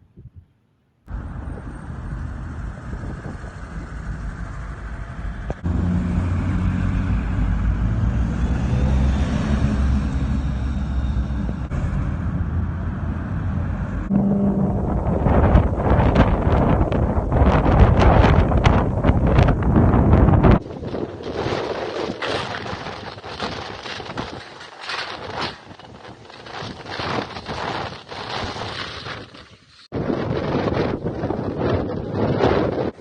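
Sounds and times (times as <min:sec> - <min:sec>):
wind buffeting microphone: 0:01.1 - 0:33.0.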